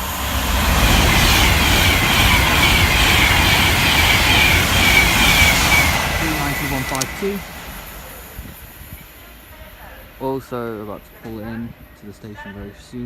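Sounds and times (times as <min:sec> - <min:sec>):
electric train passing at speed: 0:00.0 - 0:12.0.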